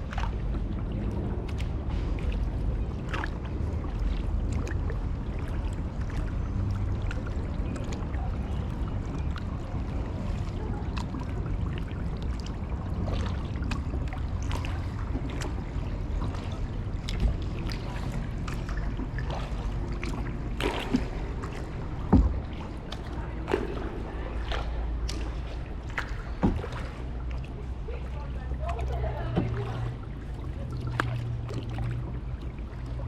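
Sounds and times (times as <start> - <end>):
paddle splashing water: 0.0 - 33.0.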